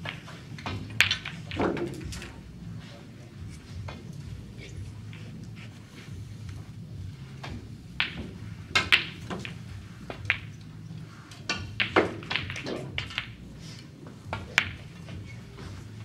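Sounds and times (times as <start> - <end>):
snooker balls clicking: 0.0 - 2.4, 3.8 - 5.7, 6.4 - 13.6, 14.3 - 15.9
low steady hum: 0.0 - 16.0.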